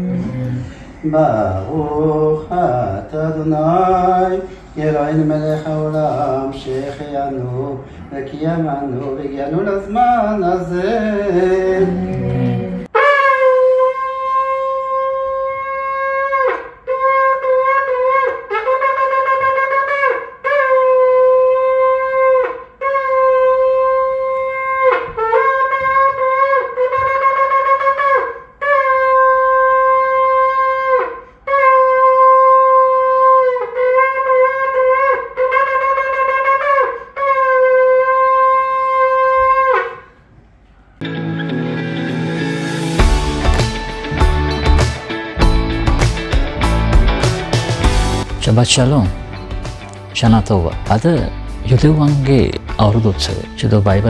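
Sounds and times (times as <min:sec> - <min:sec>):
shofar blasts: 0:00.0 - 0:08.0, 0:08.9 - 0:40.3, 0:41.1 - 0:54.0.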